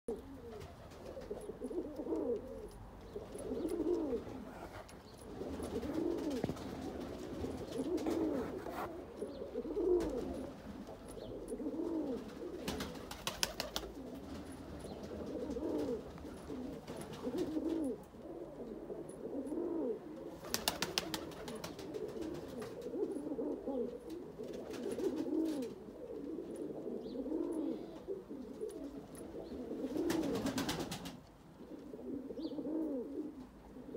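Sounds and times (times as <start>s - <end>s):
pigeons cooing: 0.1s - 33.9s.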